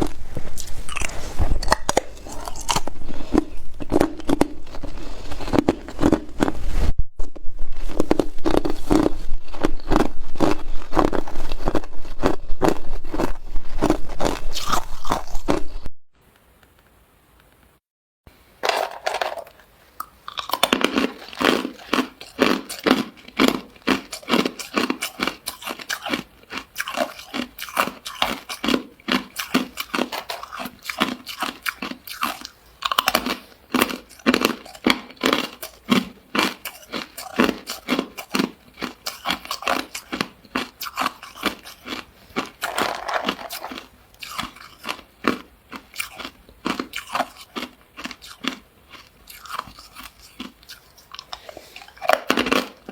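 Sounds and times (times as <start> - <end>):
person chewing ice: 0.0 - 7.0, 7.7 - 15.9, 18.7 - 52.9.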